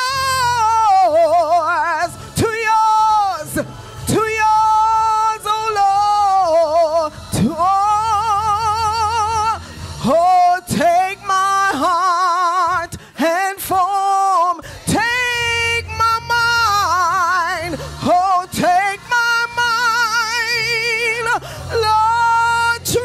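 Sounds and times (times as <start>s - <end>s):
woman singing slow worship song: 0.0s - 23.0s.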